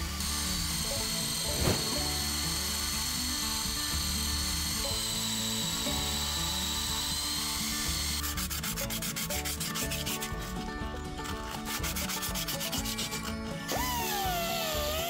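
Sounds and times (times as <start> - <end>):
drill wire brush scrubbing metal: 0.0 - 15.0.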